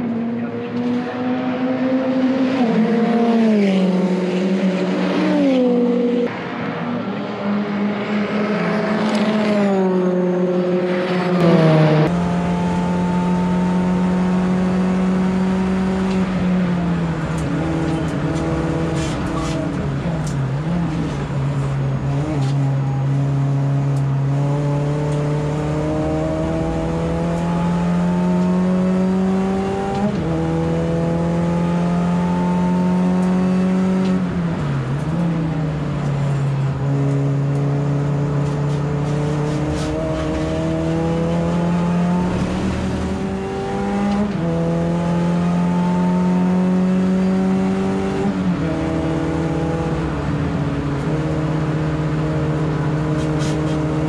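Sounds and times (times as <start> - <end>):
race car engine under hard load: 0.0 - 54.0.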